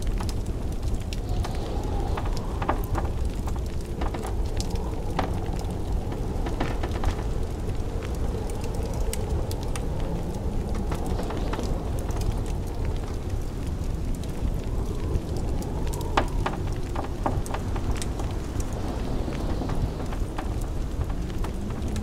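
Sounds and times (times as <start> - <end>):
fireplace crackling and popping: 0.0 - 22.0
low rumble of blizzard wind: 0.0 - 22.0.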